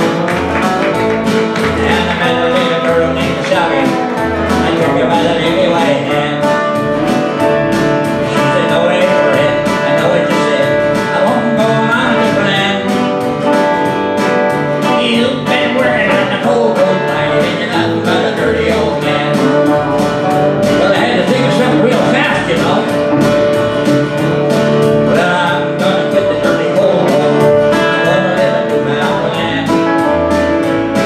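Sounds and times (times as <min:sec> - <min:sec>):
man singing: 0:00.0 - 0:13.5, 0:14.7 - 0:31.0
electric bass guitar: 0:00.0 - 0:31.0
strummed acoustic guitar: 0:00.0 - 0:31.0.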